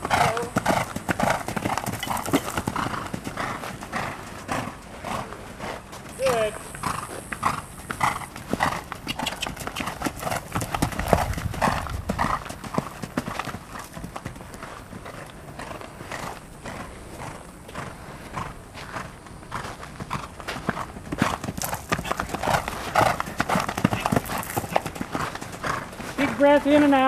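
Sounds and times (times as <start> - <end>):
horse hoofbeats on sand: 0.0 - 27.0.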